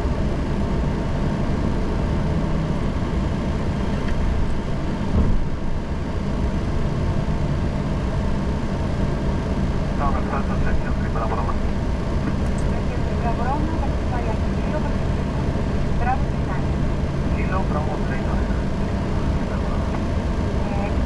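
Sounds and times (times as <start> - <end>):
aircraft engine and airflow rumble: 0.0 - 21.0.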